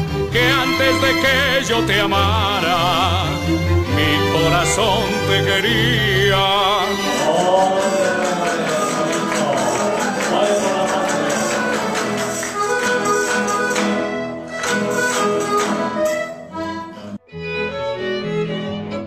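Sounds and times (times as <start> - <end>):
string music: 0.0 - 19.0
strummed guitars and bandurrias: 0.0 - 19.0.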